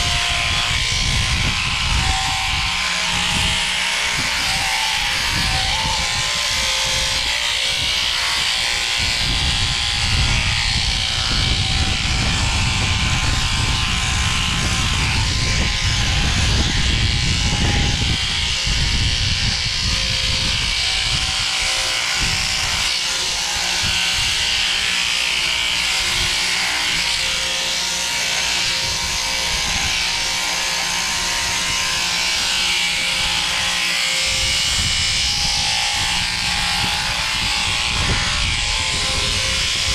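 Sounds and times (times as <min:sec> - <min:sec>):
electric shears buzzing: 0:00.0 - 0:39.9.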